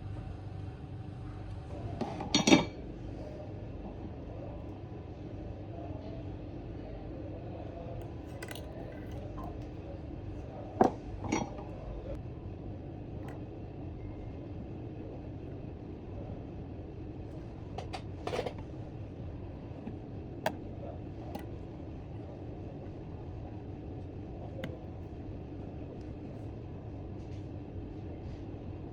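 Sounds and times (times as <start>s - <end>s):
low hum of shop noise: 0.0s - 28.9s.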